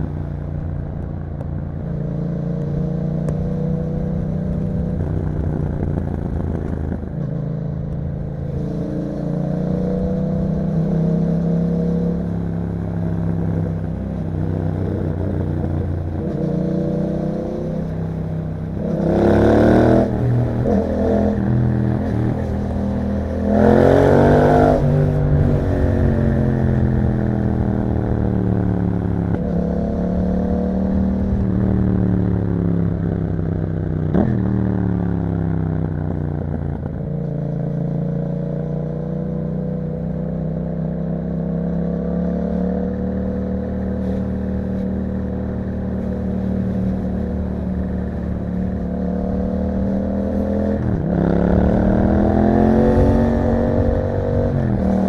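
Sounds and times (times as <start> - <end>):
motorcycle engine riding: 0.0 - 55.0.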